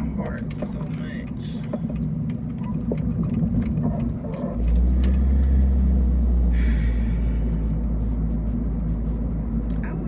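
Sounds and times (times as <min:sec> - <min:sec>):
car rumble from inside cabin: 0:00.0 - 0:10.0.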